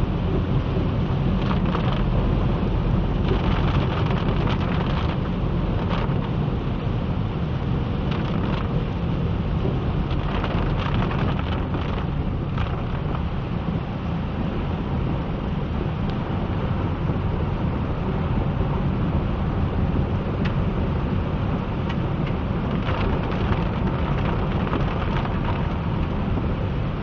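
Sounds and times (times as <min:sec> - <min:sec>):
heavy rain: 0:00.0 - 0:27.0
low rumble: 0:00.0 - 0:27.0.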